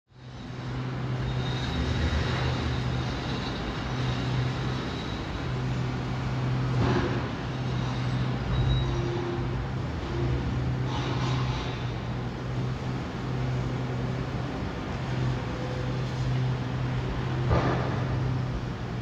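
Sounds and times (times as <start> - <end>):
engines rumbling: 0.1 - 19.0
outdoor background noise: 0.1 - 19.0.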